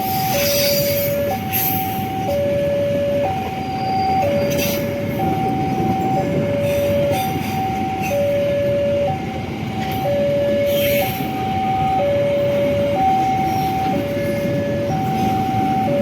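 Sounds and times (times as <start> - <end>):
train passing rumble: 0.0 - 16.0
two-tone level crossing alarm: 0.0 - 16.0.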